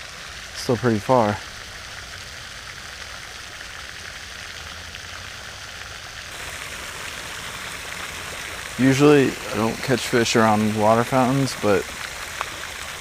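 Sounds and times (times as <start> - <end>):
pond fountain splashing: 0.0 - 13.0.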